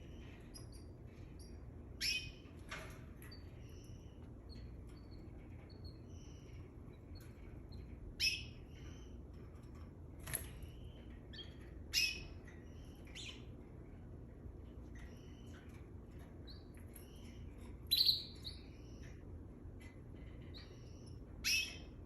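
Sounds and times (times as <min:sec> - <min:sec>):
canaries chirping and squabbling: 0:00.0 - 0:22.0.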